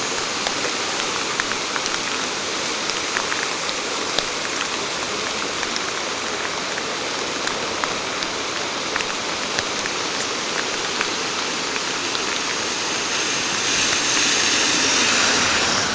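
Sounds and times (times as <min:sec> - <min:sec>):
heavy rain falling: 0:00.0 - 0:15.9
hiss: 0:00.0 - 0:15.9
rushing water: 0:00.0 - 0:15.9.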